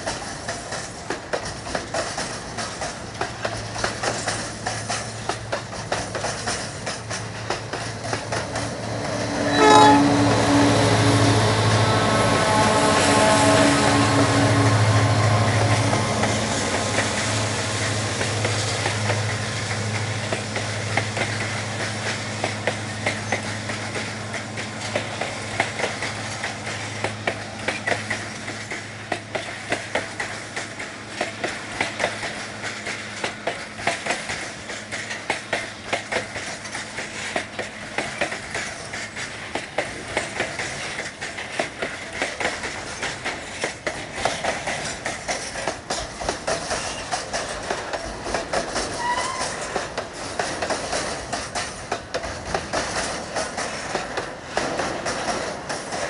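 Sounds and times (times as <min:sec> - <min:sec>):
freight wagon wheels clacking: 0:00.0 - 0:10.0, 0:15.4 - 0:56.0
diesel locomotive engine hum: 0:00.0 - 0:56.0.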